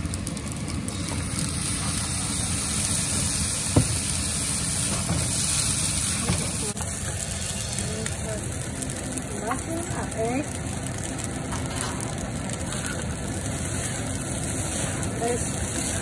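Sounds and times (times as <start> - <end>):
rice stir-frying in a wok: 0.0 - 16.0.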